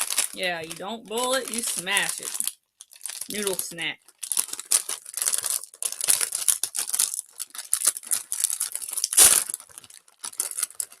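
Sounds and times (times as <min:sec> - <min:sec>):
plastic wrapper crinkling: 0:00.0 - 0:11.0
wrapper ripping open: 0:00.0 - 0:11.0.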